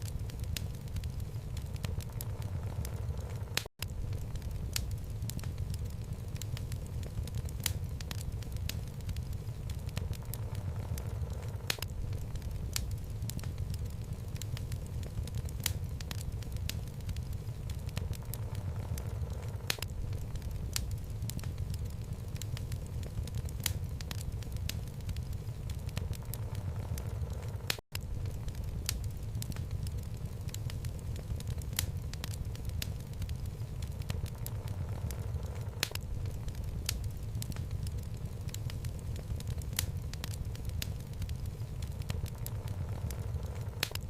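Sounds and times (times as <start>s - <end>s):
fire flames rumbling: 0.0s - 44.0s
wood crackling and popping: 0.0s - 44.0s.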